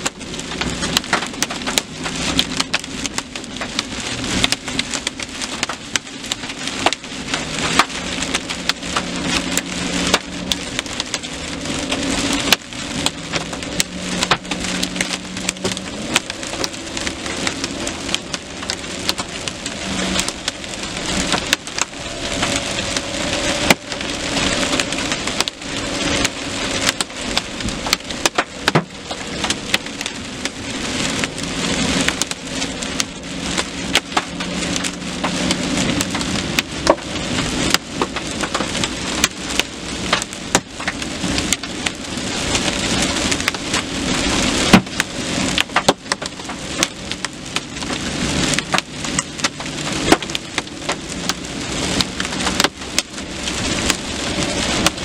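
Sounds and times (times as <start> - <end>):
hailstones striking a vehicle: 0.0 - 55.0
heavy rain on a vehicle: 0.0 - 55.0.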